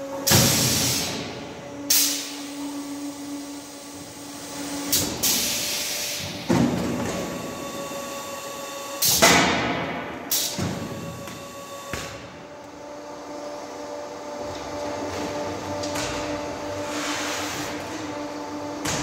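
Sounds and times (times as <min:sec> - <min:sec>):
steady machine hum: 0:00.0 - 0:19.0
machine mechanisms clunking: 0:00.1 - 0:08.1, 0:09.0 - 0:12.8, 0:14.4 - 0:19.0.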